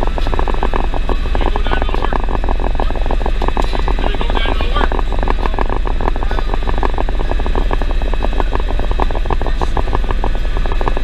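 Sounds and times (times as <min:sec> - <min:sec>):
helicopter rotor chop: 0:00.0 - 0:11.0
low engine drone: 0:00.0 - 0:11.0
thin steady whine: 0:00.0 - 0:11.0.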